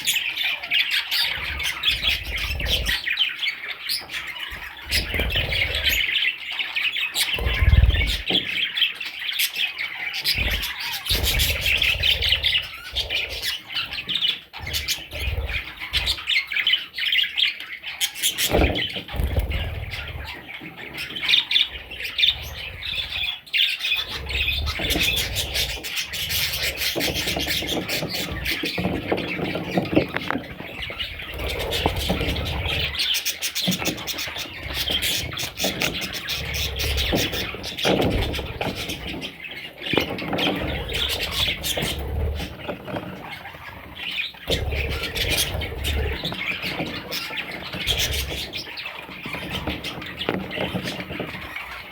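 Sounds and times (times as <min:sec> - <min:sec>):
parrots chirping and squawking: 0:00.0 - 0:51.9.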